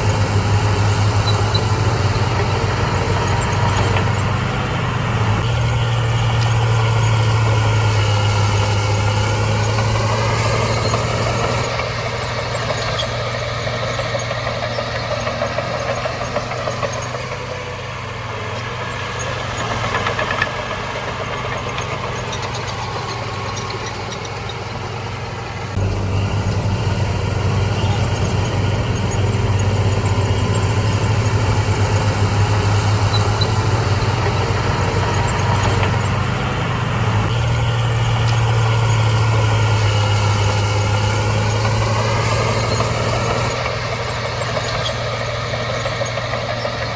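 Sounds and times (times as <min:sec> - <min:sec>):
heavy machinery diesel engine: 0:00.0 - 0:46.9.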